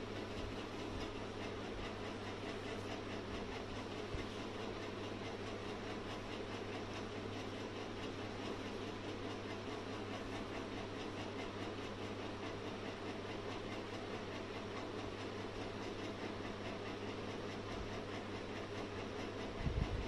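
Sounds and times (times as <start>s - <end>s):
mechanical whirring with low hum: 0.0s - 20.0s.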